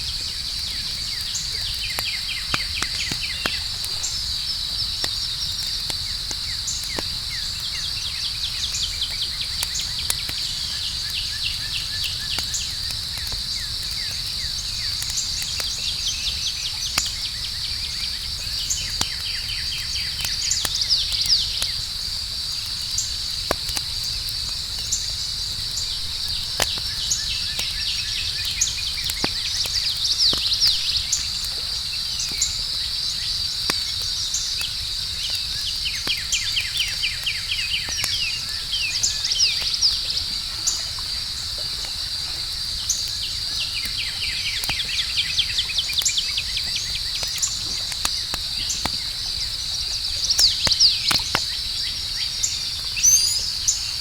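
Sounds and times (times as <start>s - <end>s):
campfire crackling and popping: 0.0s - 54.0s
night insects chirping: 0.0s - 54.0s.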